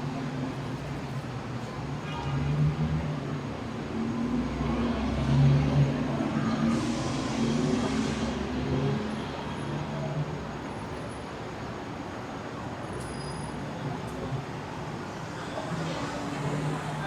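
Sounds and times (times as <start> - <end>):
passing cars hum: 2.5 - 17.0.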